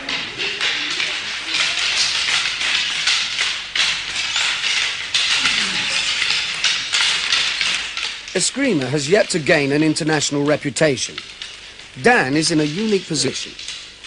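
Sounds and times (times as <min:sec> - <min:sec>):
sticks clacking together: 0:00.0 - 0:14.0.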